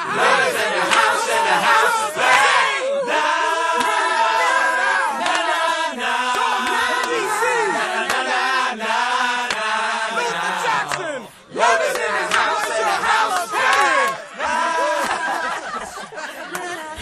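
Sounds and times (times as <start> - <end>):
choir singing a chant: 0.0 - 16.2.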